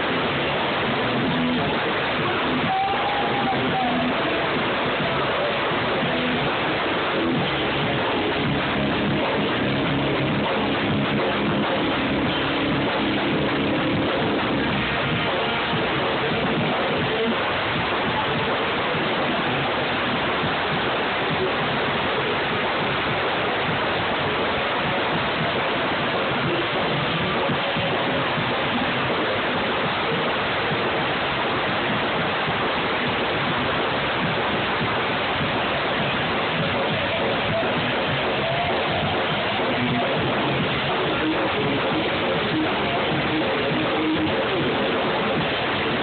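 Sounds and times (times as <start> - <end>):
electric guitar: 0.0 - 46.0.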